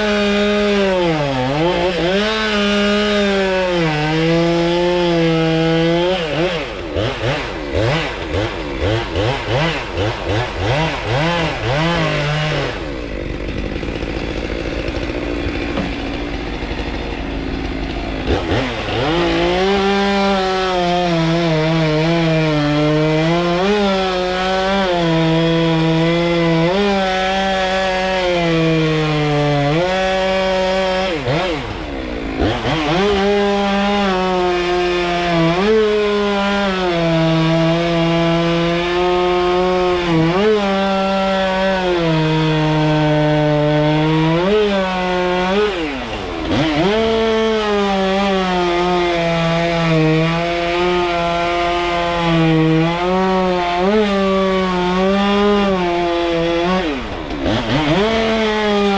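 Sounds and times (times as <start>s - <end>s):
chain cutting wood: 0.0s - 58.9s
chainsaw revving: 0.0s - 58.9s.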